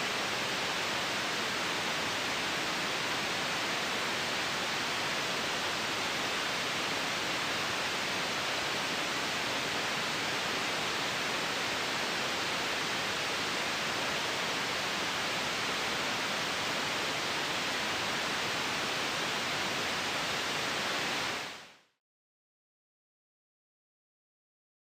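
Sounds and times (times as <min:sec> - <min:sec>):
white noise hiss: 0:00.0 - 0:22.0.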